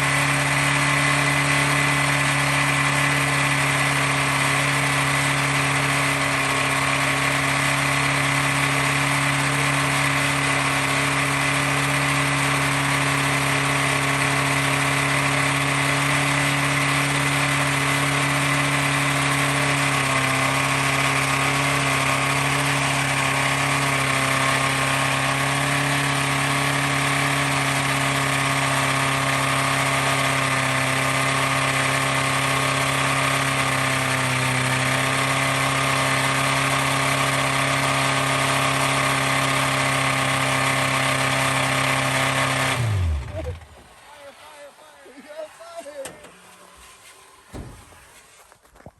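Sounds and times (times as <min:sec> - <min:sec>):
engine idling: 0:00.0 - 0:48.7.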